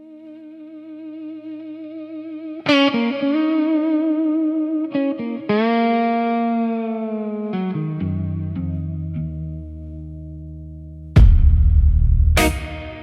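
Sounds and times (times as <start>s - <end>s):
electric guitar with effects: 0.0s - 13.0s.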